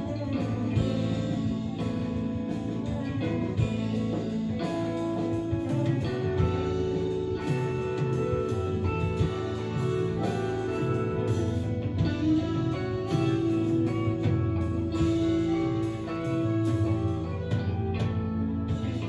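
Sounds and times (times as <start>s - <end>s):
live band playing instrumental: 0.0s - 19.0s.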